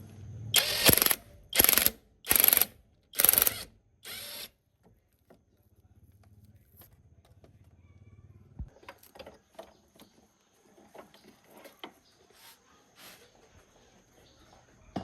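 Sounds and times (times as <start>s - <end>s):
faint low hum: 2.9s - 15.0s.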